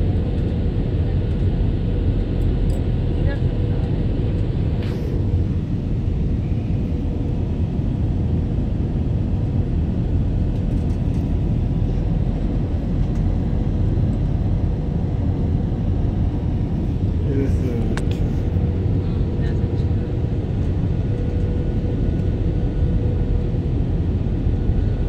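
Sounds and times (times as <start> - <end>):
jet engines and rushing air: 0.0 - 25.0.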